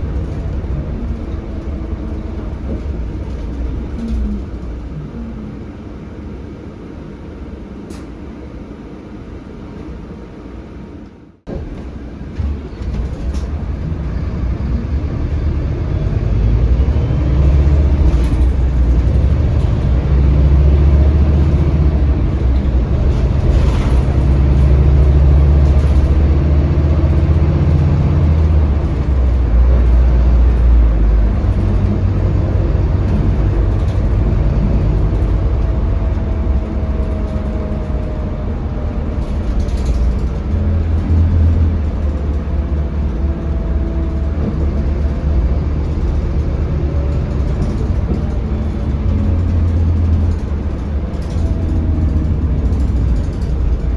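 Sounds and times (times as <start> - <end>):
bus diesel engine rumble: 0.0 - 53.9.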